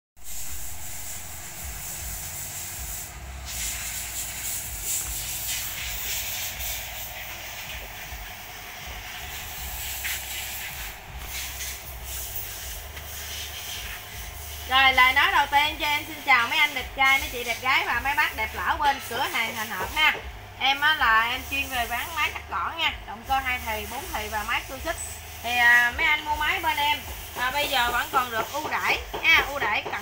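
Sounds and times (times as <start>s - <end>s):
steady hissing noise: 0.2s - 30.0s.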